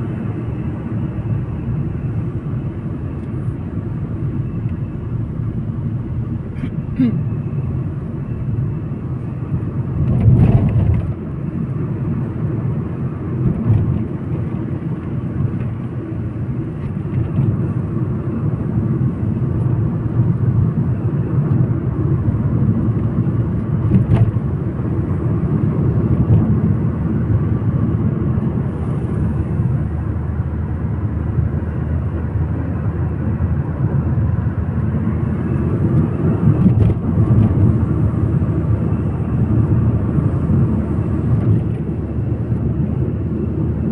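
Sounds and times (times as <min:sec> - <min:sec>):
car driving on road: 0:00.0 - 0:43.9.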